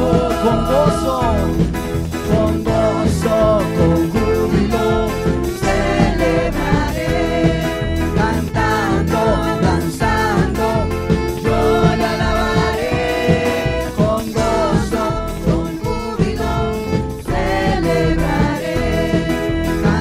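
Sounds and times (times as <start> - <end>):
worship band and singers: 0.0 - 20.0.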